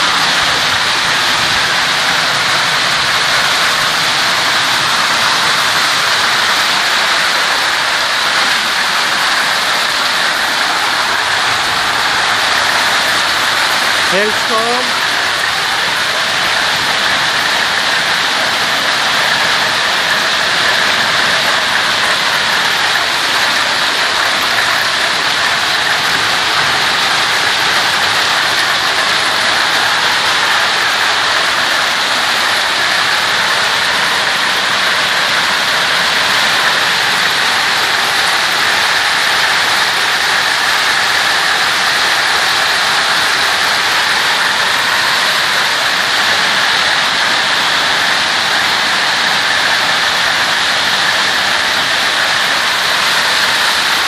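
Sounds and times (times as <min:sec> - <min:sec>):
hail and rain pelting down: 0:00.0 - 0:54.0.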